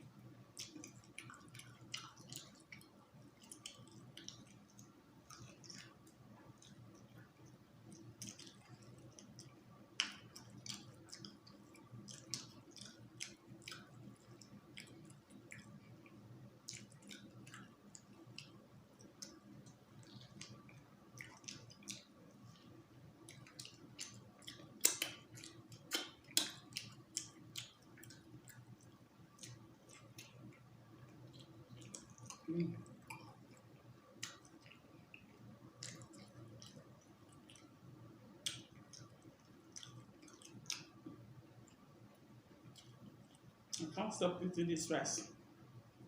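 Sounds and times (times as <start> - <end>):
chewing and lip-smacking: 0.0 - 44.0.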